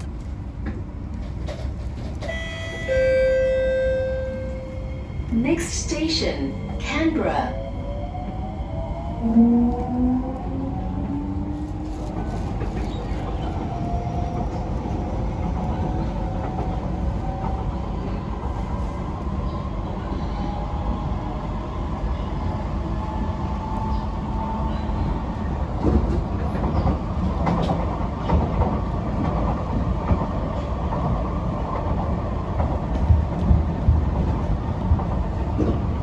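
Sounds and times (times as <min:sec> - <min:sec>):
train wheels rumbling on track: 0:00.0 - 0:36.0.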